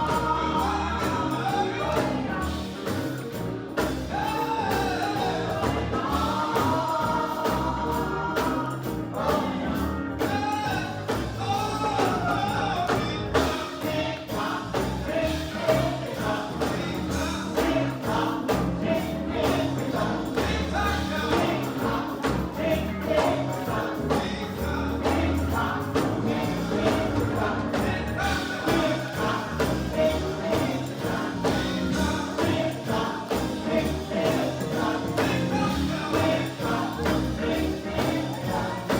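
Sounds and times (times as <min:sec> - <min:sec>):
gospel group singing: 0:00.0 - 0:38.9
tambourine: 0:00.0 - 0:38.9.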